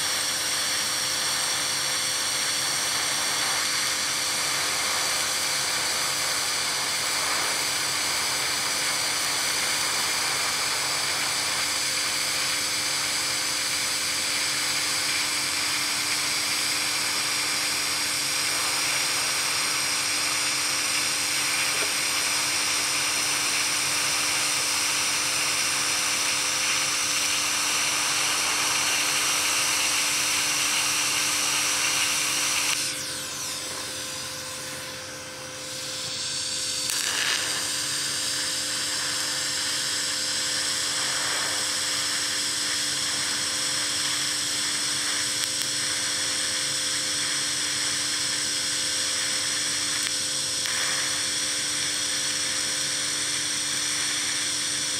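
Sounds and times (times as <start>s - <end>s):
welding arc hissing: 0.0s - 54.9s.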